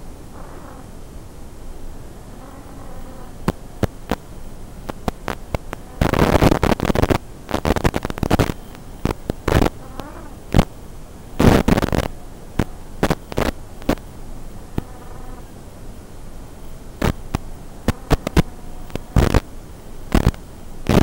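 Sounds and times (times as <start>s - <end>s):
loud static bursts: 0.0s - 21.0s
radio receiver hiss and static: 0.0s - 21.0s
static crackles: 0.0s - 21.0s.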